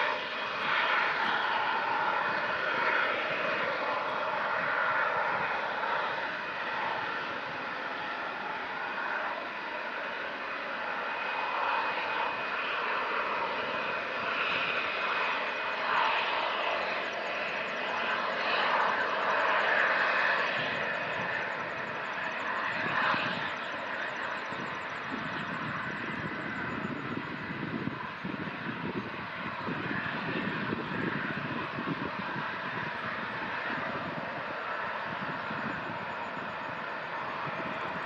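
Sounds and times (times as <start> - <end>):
jet engines whining: 0.0 - 38.0.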